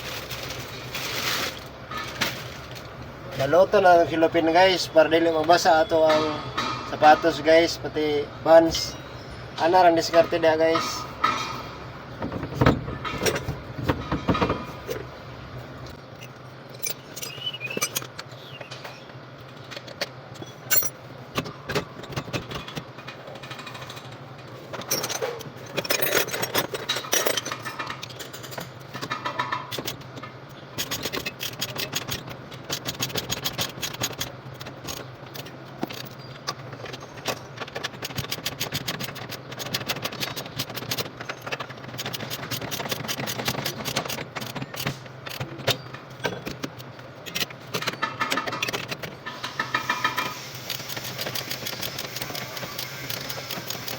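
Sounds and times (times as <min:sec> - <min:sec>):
metal tools clinking and rattling: 0:08.6 - 0:15.1, 0:15.9 - 0:53.9.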